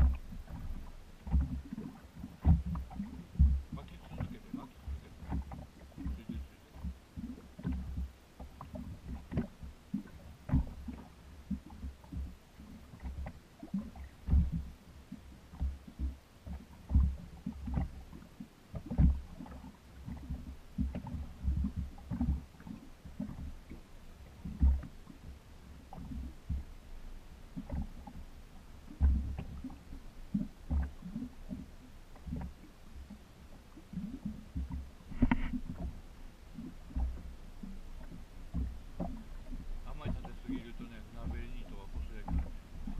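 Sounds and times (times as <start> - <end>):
waves slapping boat hull: 0.0 - 42.9.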